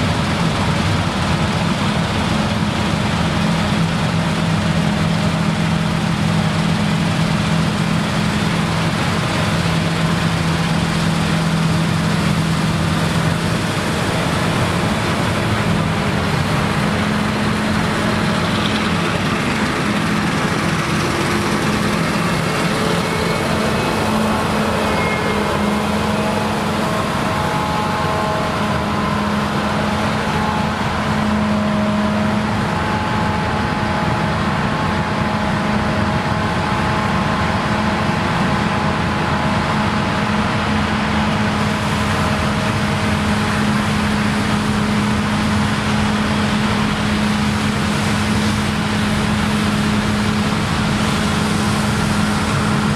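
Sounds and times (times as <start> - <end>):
combine harvesters droning: 0.0 - 52.9.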